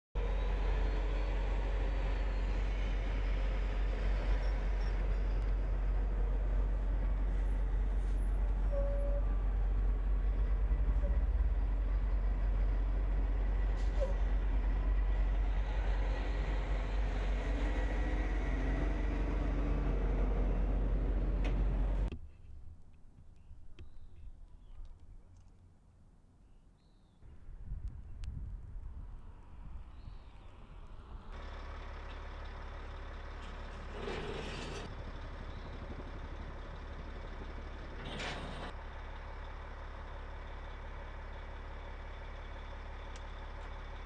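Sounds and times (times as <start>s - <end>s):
heavy trucks driving past: 0.2s - 22.1s, 29.0s - 44.0s
diesel engine and tyre noise: 0.2s - 44.0s.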